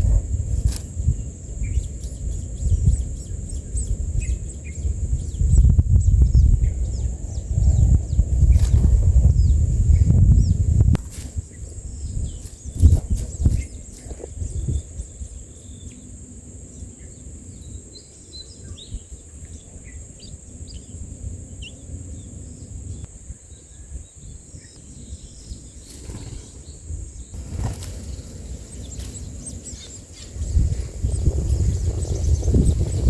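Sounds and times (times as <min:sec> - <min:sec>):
faint bird chirps: 0:00.5 - 0:33.0.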